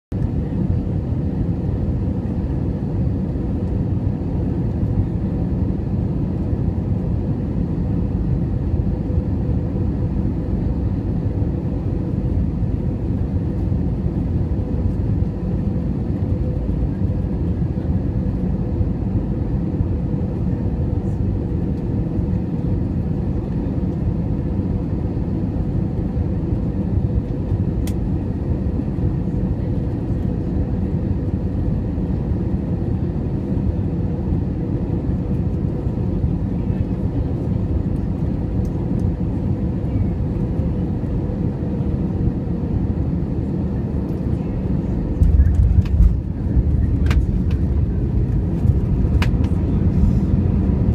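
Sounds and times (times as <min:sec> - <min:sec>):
airplane cabin engine rumble: 0:00.1 - 0:50.9.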